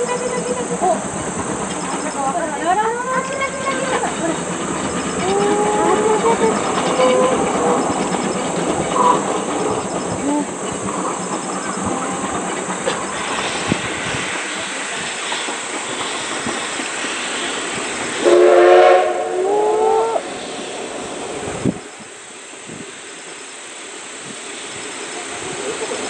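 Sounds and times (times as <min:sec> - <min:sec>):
steam locomotive running: 0:00.0 - 0:26.0.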